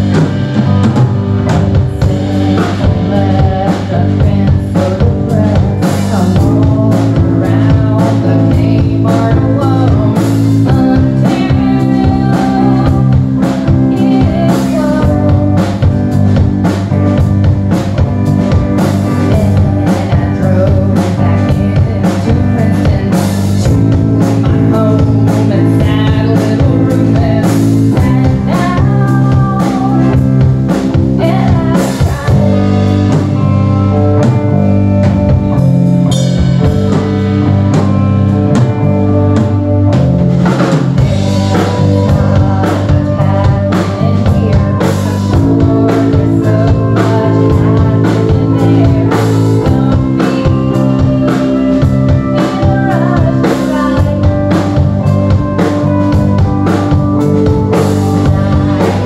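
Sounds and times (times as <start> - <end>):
bass guitar: 0.0 - 59.0
drum kit beat: 0.0 - 59.0
electric guitar: 0.0 - 59.0
woman singing into a microphone: 1.5 - 34.0, 40.8 - 59.0.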